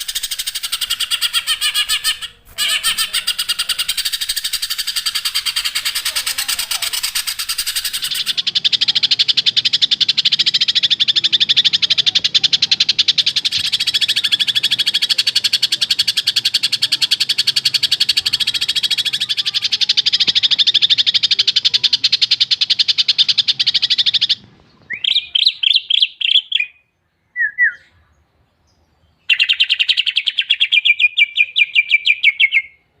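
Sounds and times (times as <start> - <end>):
bird chattering song: 0.0 - 32.9.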